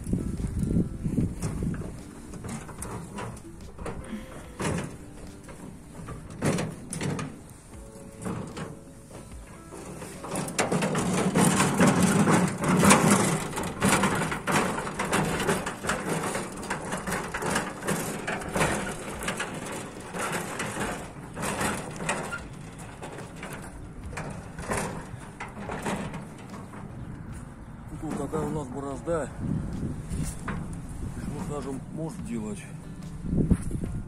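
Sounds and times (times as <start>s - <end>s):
metal garden cart rattling: 0.0s - 34.0s.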